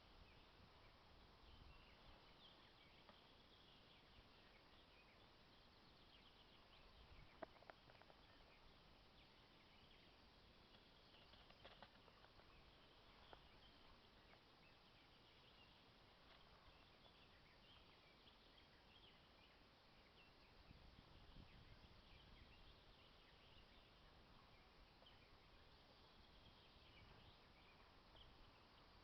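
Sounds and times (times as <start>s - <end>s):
faint woodland ambience: 0.0s - 29.0s.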